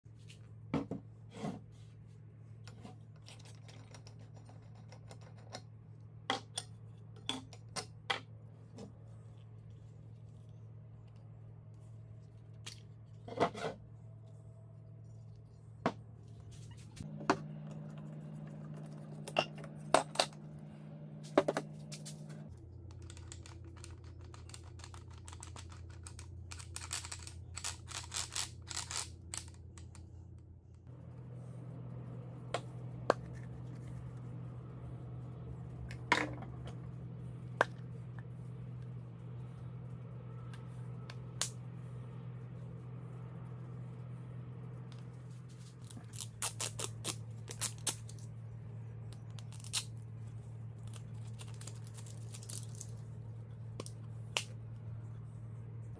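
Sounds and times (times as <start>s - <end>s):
steady low hum: 0.1s - 55.9s.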